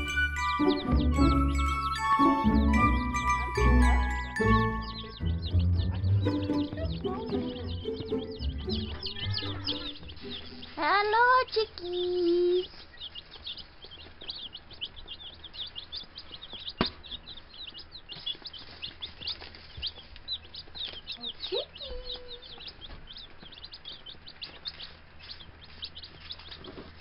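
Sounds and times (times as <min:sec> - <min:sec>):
baby chicks peeping: 0:00.0 - 0:27.0.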